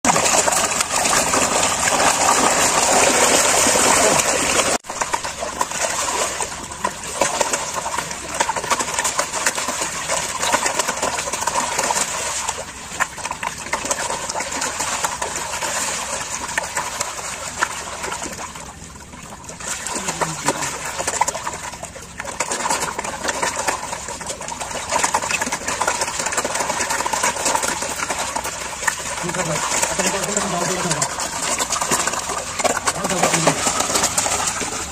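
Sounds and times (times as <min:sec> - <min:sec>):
fish thrashing and splashing: 0:00.0 - 0:34.9.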